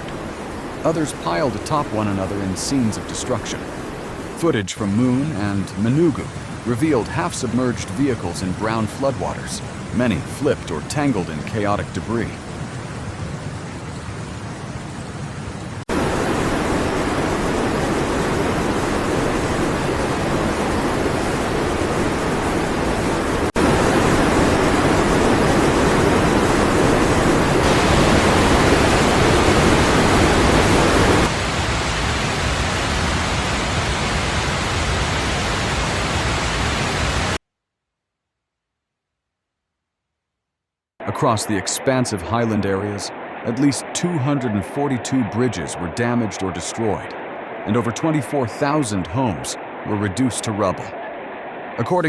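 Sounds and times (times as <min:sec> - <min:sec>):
floodwater rushing: 0:00.0 - 0:37.4, 0:41.0 - 0:52.0.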